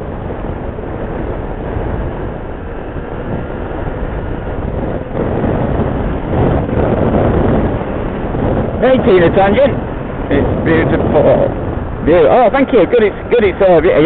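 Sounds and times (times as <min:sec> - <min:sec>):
motorcycle engine: 0:00.0 - 0:14.0
wind rushing over microphone: 0:00.0 - 0:14.0.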